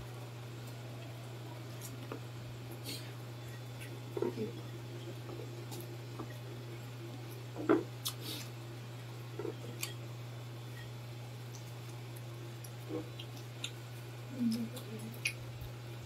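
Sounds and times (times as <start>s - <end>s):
steady low hum: 0.0s - 16.0s
chewing and wet mouth sounds: 0.5s - 8.6s, 9.4s - 10.0s, 10.7s - 16.0s.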